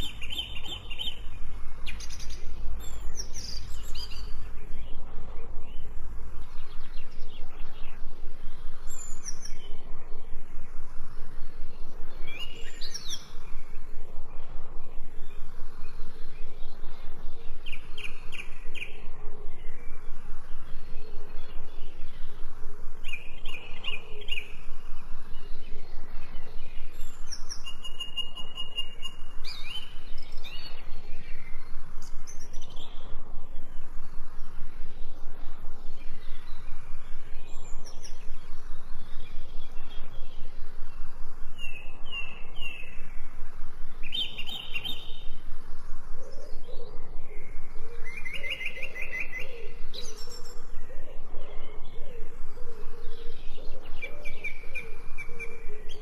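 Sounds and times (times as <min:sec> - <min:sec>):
birds chirping: 0:00.0 - 0:56.0
pulsing background noise: 0:00.0 - 0:56.0.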